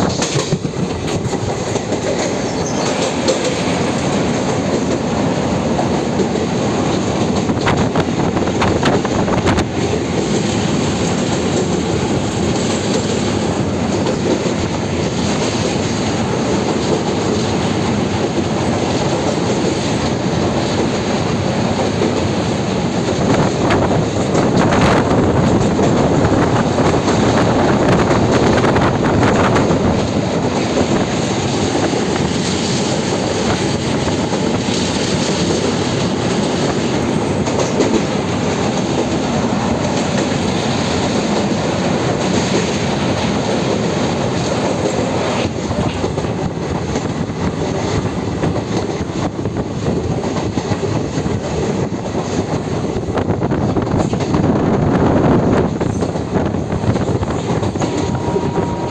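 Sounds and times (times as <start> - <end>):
train wheels running on rails: 0.0 - 58.9.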